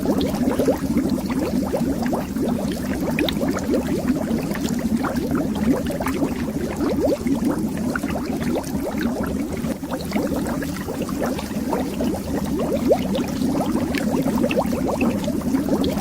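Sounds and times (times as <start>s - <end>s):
underwater bubbles gurgling: 0.0s - 16.0s.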